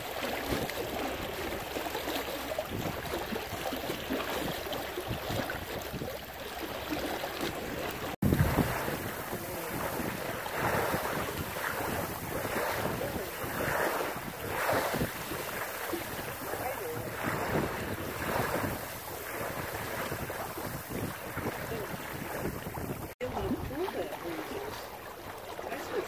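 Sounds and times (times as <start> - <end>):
water splashing along boat hull: 0.0 - 26.0
wind buffeting microphone: 0.4 - 24.9.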